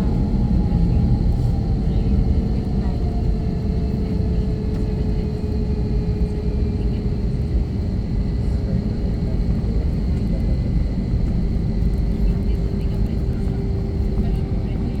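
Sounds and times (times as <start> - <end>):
jet engines idling hum: 0.0 - 15.0.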